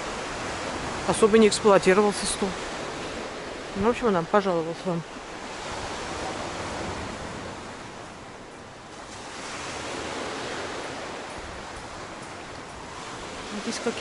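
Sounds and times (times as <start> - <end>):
small waves washing against seawall: 0.0 - 14.0.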